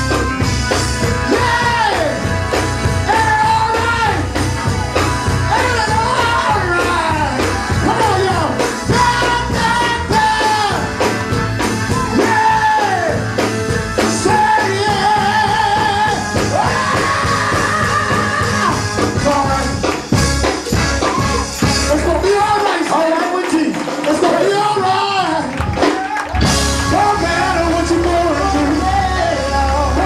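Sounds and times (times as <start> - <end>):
bass and drum beat: 0.0 - 30.0.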